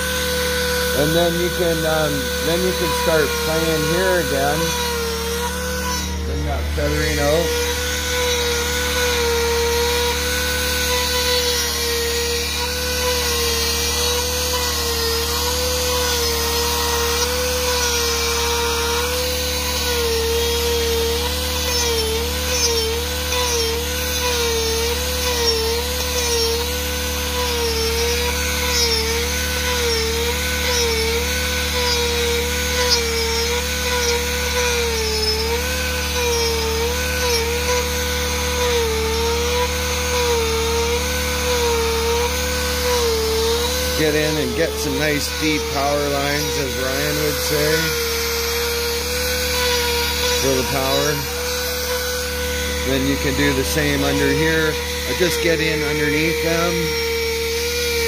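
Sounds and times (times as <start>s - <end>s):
rotary tool cutting into wood: 0.0s - 58.0s.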